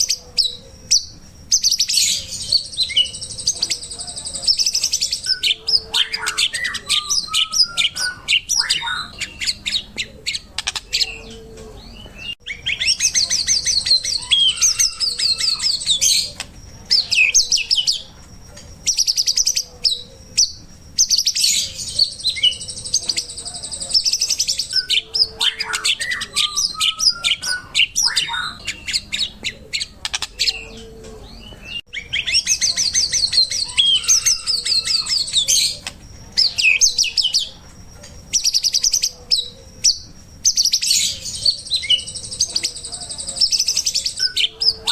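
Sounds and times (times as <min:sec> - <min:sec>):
songbird singing trills and whistles: 0:00.0 - 0:44.9.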